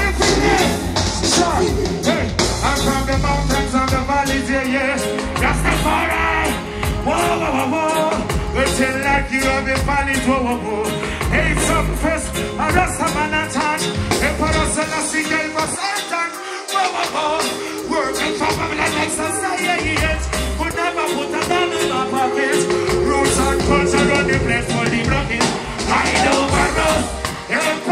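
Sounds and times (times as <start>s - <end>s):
live reggae band: 0.0s - 27.9s
man singing into a microphone: 0.0s - 27.9s.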